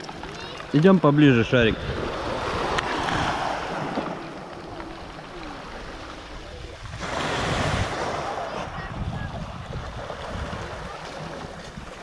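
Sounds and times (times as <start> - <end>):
waves washing up pebbles: 0.0 - 12.0
wind rumbling on microphone: 0.6 - 12.0.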